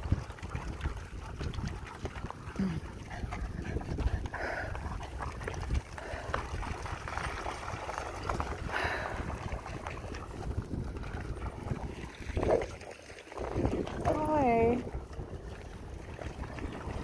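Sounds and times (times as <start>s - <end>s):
dogs splashing through water: 0.0s - 17.0s
wind buffeting microphone: 0.0s - 17.0s.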